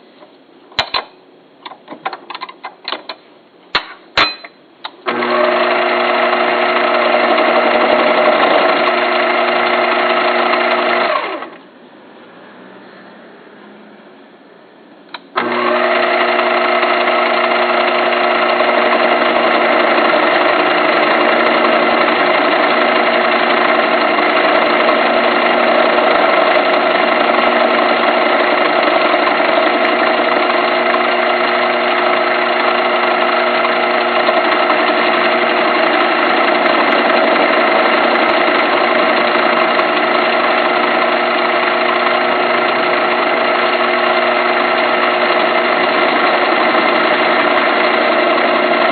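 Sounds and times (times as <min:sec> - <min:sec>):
lathe motor whine: 0:05.1 - 0:11.6, 0:15.4 - 0:48.9.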